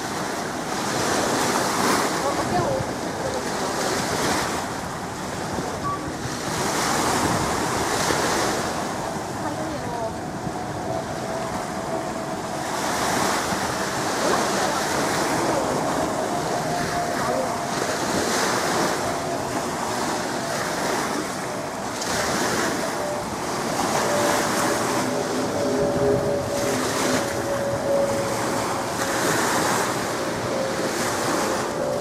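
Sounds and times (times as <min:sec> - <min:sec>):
river water washing on shore: 0:00.0 - 0:32.0
wind on microphone: 0:00.0 - 0:32.0.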